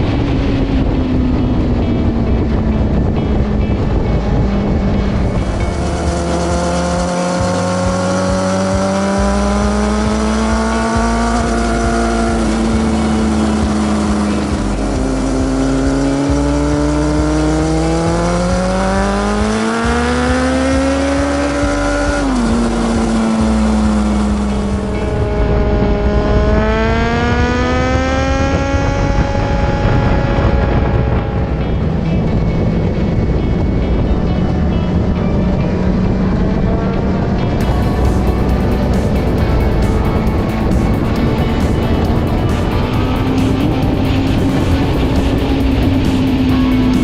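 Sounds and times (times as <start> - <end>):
background music with bass: 0.0 - 47.0
motorcycle engine revving: 0.0 - 47.0.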